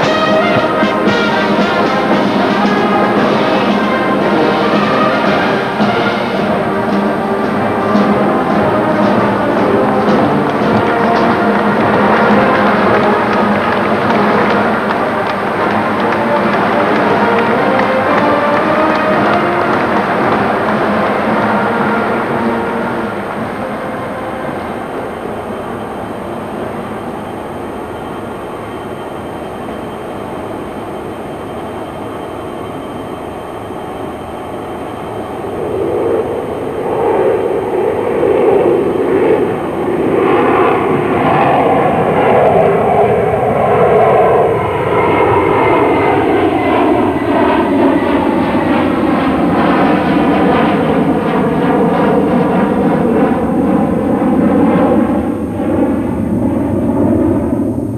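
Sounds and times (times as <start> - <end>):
jet aircraft flypast rumble: 0.0 - 57.9.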